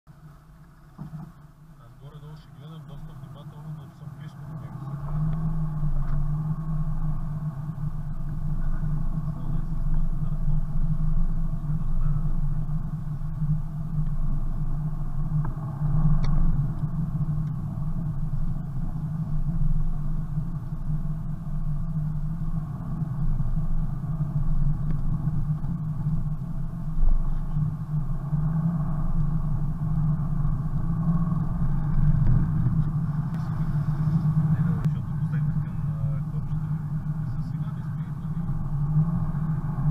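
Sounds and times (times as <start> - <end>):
car engine drone: 0.1 - 39.9
tyre and road rumble: 0.1 - 39.9.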